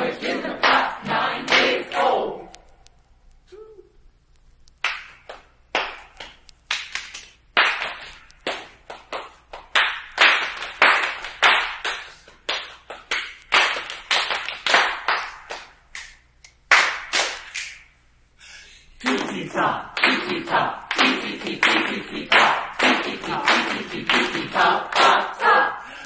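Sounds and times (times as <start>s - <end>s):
people clapping in unison: 0.0s - 2.5s, 4.8s - 17.9s, 19.0s - 25.8s.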